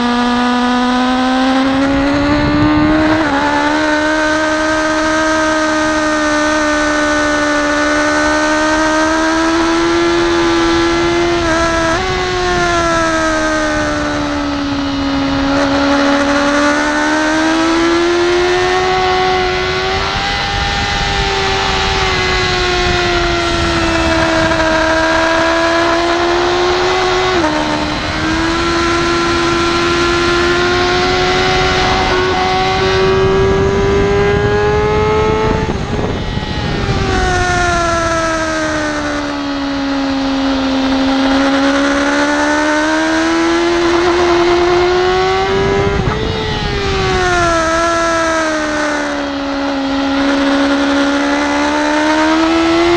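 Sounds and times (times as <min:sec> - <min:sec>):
motorcycle engine running under load: 0:00.0 - 0:52.9.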